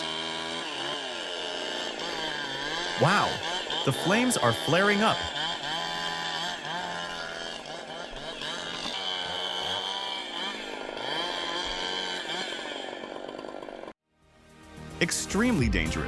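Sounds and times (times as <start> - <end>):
chainsaw cutting tree trunk: 0.0 - 14.0.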